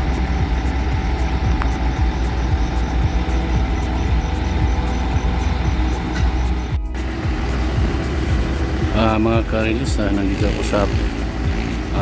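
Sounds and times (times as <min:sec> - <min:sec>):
diesel engines rumbling: 0:00.0 - 0:12.0.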